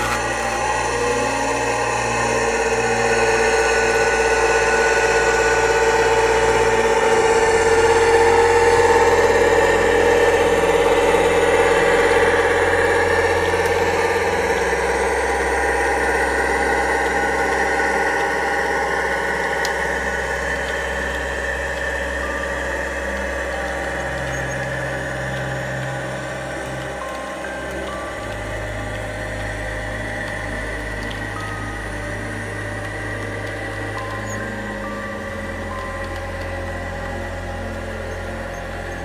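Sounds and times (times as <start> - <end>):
model train diesel engine sound: 0.0 - 39.0.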